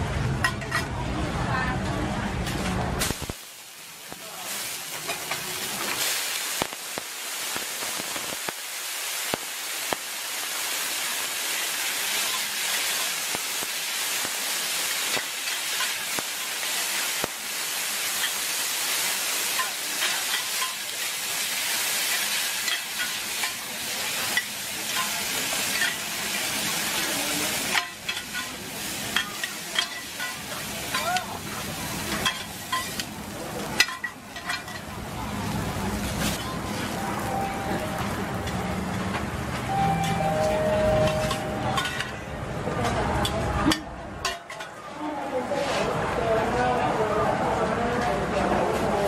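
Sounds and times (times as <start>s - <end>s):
food sizzling on steel pan: 3.0s - 42.3s.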